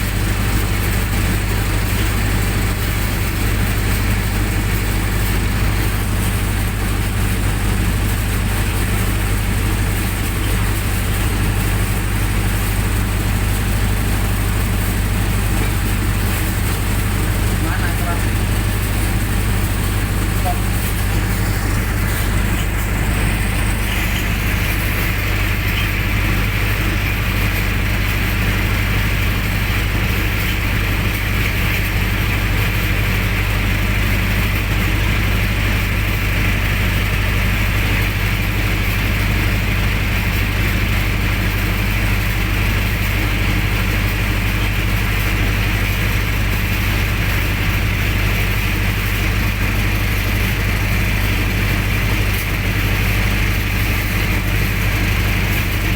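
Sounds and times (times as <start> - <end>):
generator engine humming: 0.0 - 55.9.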